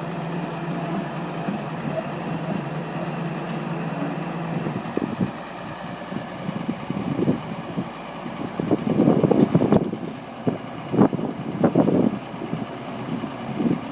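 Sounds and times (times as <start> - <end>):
excavator diesel engine running unevenly: 0.0 - 13.9.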